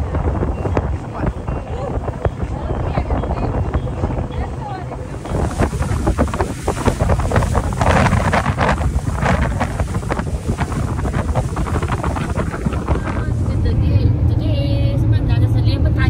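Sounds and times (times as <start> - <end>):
water rushing past: 0.0 - 14.4
boat engine rumble: 0.0 - 16.0
wind buffeting microphone: 0.0 - 16.0.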